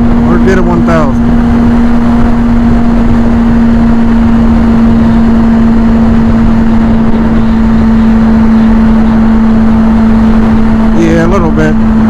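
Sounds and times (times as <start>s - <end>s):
constant hum: 0.0s - 12.0s
vehicle road and engine rumble: 0.0s - 12.0s.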